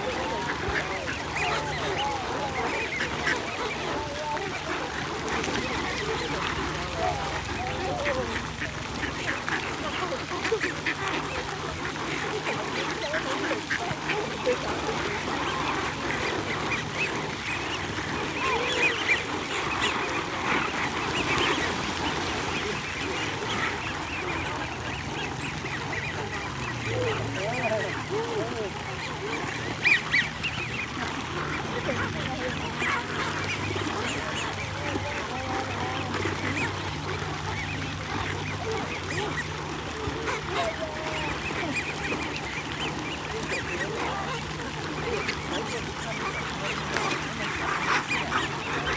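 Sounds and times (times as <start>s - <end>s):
flock of birds calling: 0.0s - 48.9s.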